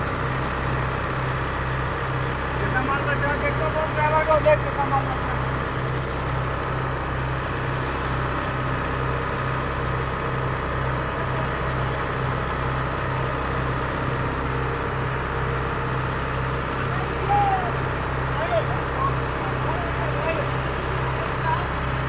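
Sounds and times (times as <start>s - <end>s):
heavy diesel engine drone: 0.0s - 22.0s.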